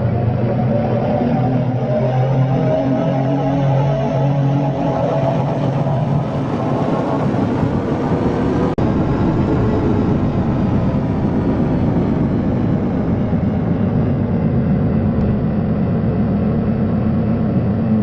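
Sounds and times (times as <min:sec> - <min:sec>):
distorted rumbling noise: 0:00.0 - 0:18.0.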